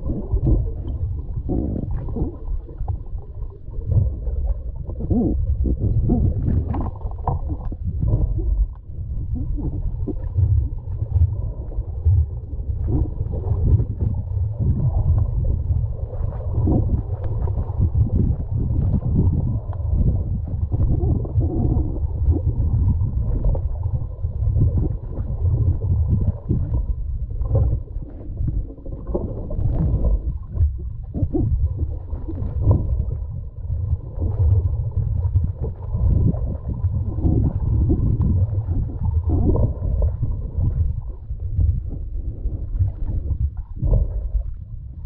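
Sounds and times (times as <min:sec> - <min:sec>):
faint crackles: 0:00.0 - 0:45.0
muffled underwater gurgling: 0:00.0 - 0:45.0.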